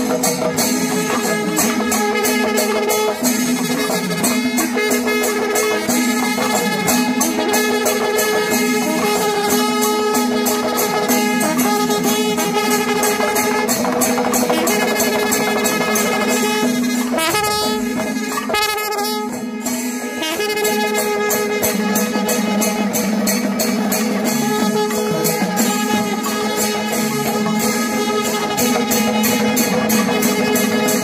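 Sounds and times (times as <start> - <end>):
drums and cymbals beating: 0.0 - 31.0
wind instrument melody: 0.0 - 31.0.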